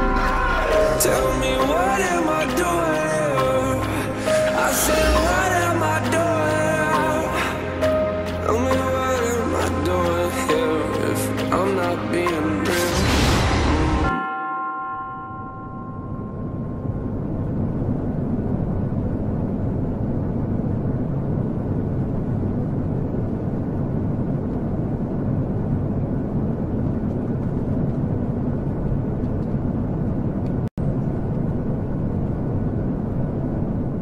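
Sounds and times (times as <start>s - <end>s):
low rumbling noise: 0.0s - 14.2s, 15.0s - 34.0s.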